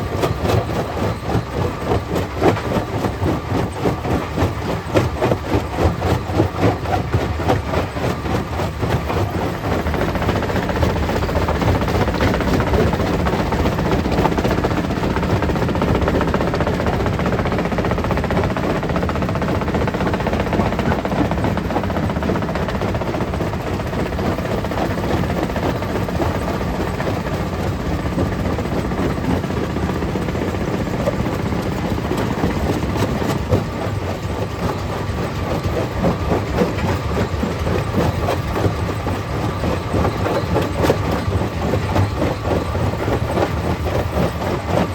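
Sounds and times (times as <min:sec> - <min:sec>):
heavy mechanical rumble: 0:00.0 - 0:44.9.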